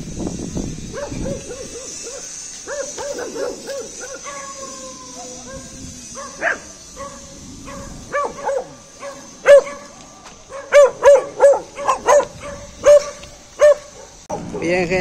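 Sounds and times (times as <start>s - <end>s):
dog barking: 0.9s - 4.8s, 5.4s - 14.6s.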